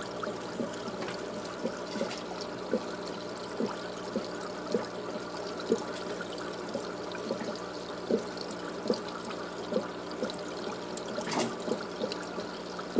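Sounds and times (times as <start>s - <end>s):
drips or bubbles popping: 0.0s - 12.9s
water trickling: 0.0s - 12.9s.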